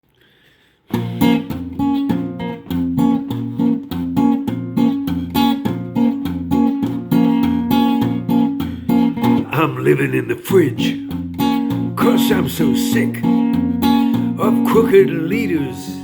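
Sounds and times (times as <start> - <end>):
acoustic guitar strumming: 0.9 - 16.0.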